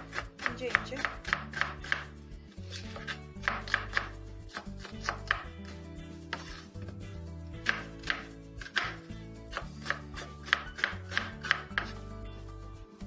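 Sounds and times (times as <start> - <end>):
knife chopping on wooden board: 0.0 - 7.0, 7.6 - 12.0
background music: 0.0 - 13.0.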